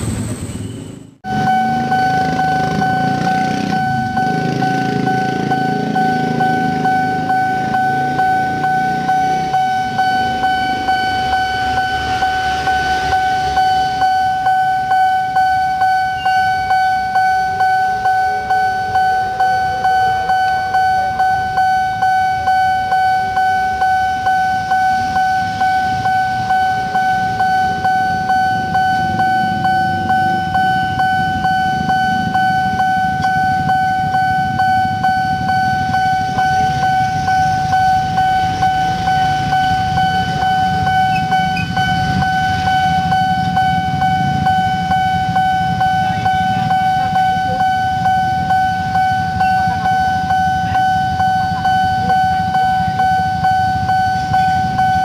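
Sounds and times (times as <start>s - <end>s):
traffic engines idling: 0.0s - 55.0s
level crossing warning bell: 1.2s - 55.0s.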